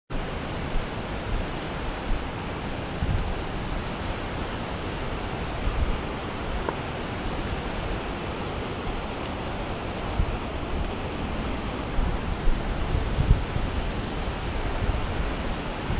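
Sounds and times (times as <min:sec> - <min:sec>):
whitewater rapid roaring: 0:00.2 - 0:15.9
wind buffeting microphone: 0:00.5 - 0:15.9.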